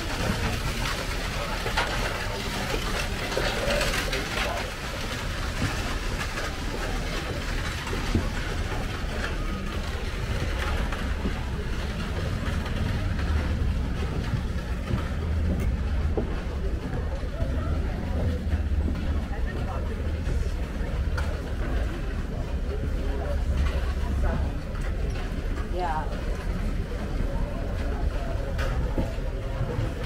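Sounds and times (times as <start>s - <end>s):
steady low rumble: 0.0s - 27.3s
horses' hooves on dirt: 0.0s - 30.0s
stagecoach wheels rolling: 0.0s - 30.0s.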